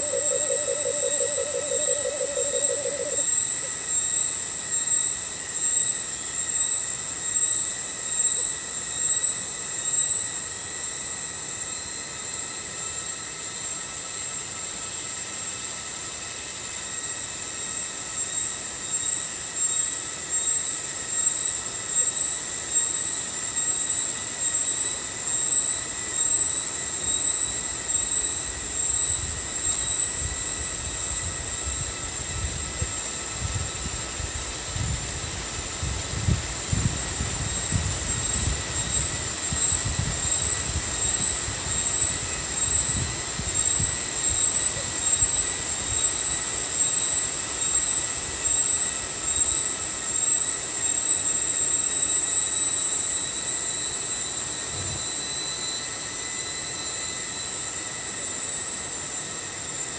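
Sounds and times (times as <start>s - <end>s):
cicadas shrilling: 0.0s - 59.9s.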